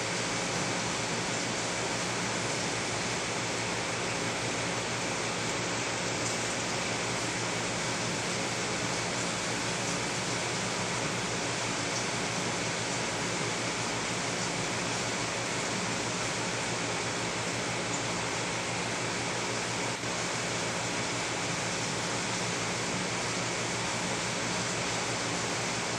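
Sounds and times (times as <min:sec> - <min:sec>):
aquarium water flow and pump: 0:00.0 - 0:25.9.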